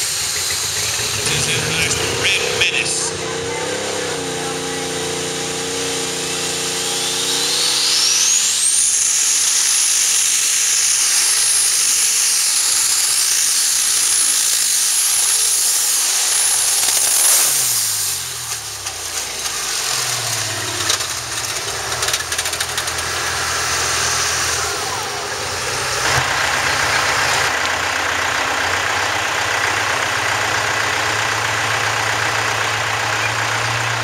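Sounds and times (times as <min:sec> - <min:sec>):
diesel engine at full throttle: 0:00.0 - 0:34.0
turbocharger whine: 0:00.0 - 0:34.0.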